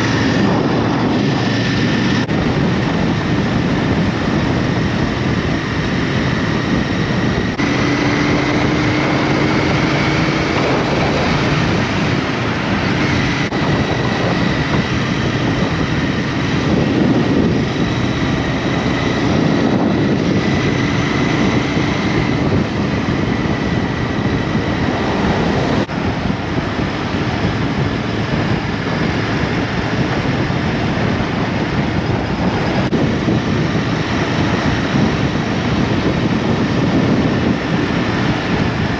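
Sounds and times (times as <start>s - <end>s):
faint motorbike engine: 0.0s - 38.9s
wind and road rush: 0.0s - 38.9s.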